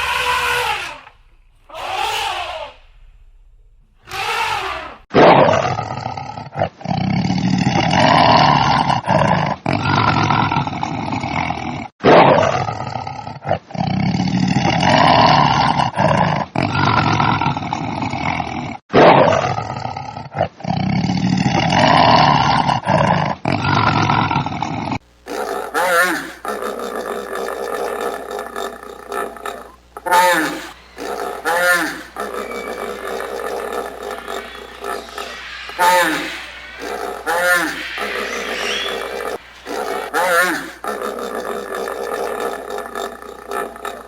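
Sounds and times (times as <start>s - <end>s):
large animal roaring: 4.1s - 44.0s.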